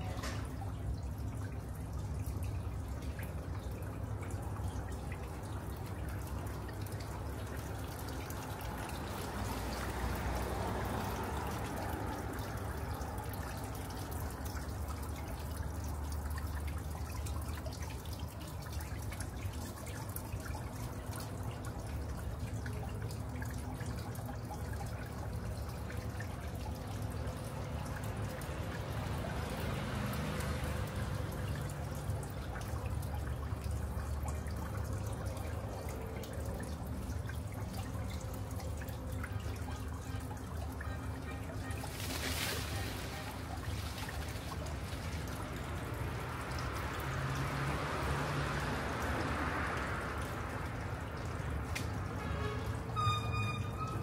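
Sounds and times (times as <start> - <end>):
water trickling and dripping: 0.0 - 54.0.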